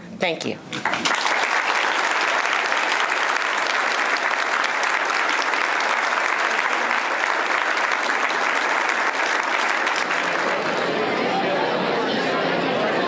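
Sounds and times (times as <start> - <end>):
crowd applauding: 0.7 - 13.0.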